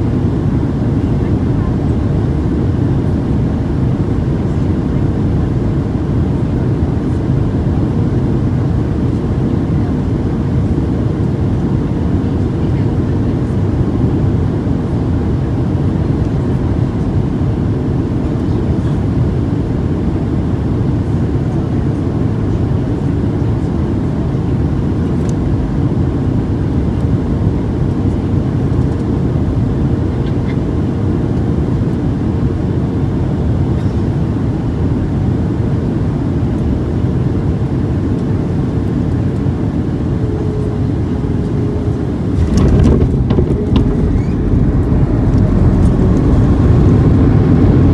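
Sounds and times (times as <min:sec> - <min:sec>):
airplane cabin rumble: 0:00.0 - 0:47.9.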